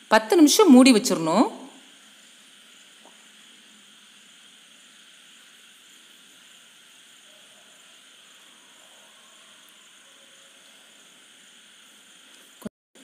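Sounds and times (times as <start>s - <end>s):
curry cooking hiss: 0.0s - 13.0s.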